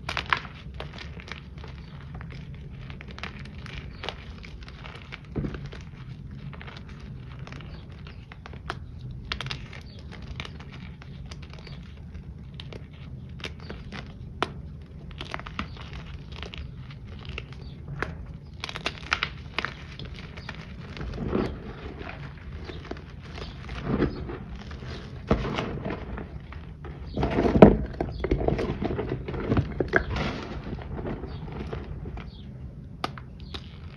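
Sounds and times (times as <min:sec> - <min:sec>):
hands crunching powder shapes: 0:00.0 - 0:33.9.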